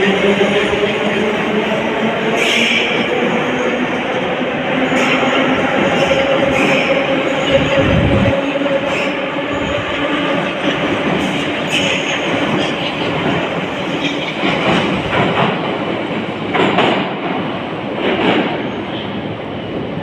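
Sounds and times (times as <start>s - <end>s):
metro train pulling out: 0.0s - 20.0s.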